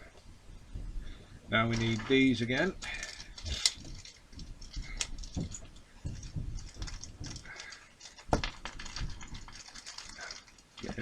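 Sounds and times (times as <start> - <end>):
rustling: 0.0 - 11.0.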